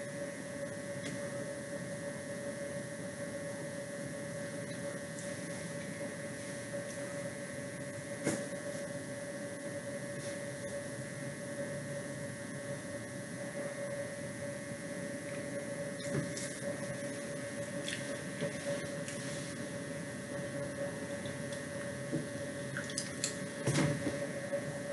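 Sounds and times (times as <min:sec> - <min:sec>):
electrical hum and hiss: 0:00.0 - 0:24.9.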